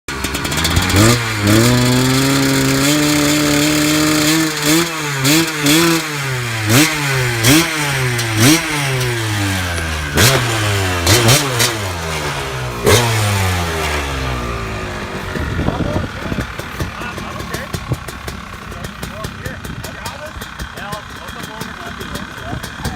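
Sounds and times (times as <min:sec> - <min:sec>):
two-stroke engine revving: 0:00.1 - 0:22.9.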